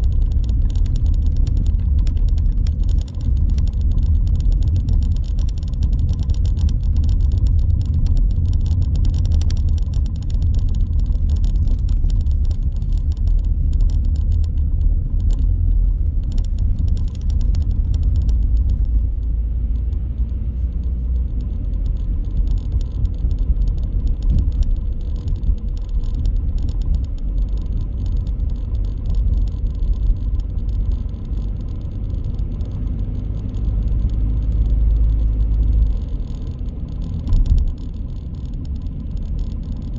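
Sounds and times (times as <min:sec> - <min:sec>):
car engine and road noise: 0:00.0 - 0:39.9
light crackle: 0:00.0 - 0:39.9.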